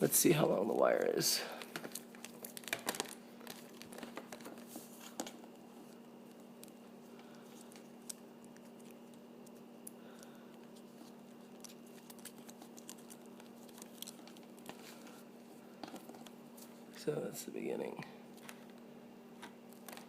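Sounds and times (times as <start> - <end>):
steady low hum: 0.0 - 20.0
wire clicks and rustles: 0.4 - 17.0, 18.3 - 18.8, 19.4 - 20.0.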